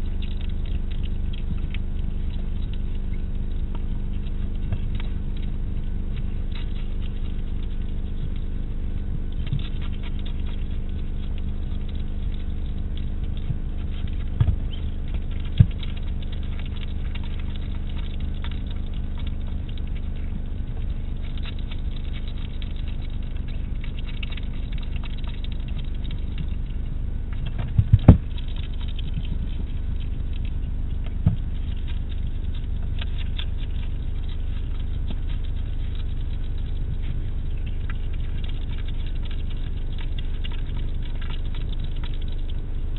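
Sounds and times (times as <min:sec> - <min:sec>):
hedgehog crunching food: 0:00.0 - 0:42.9
low hum: 0:00.0 - 0:42.9.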